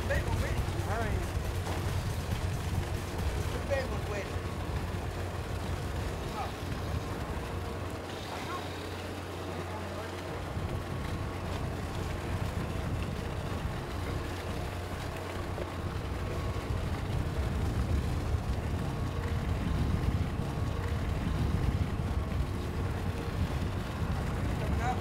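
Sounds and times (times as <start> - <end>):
wind noise: 0.0 - 7.9, 10.5 - 14.9, 15.7 - 25.0
low engine rumble: 0.0 - 25.0
water wash: 0.0 - 25.0.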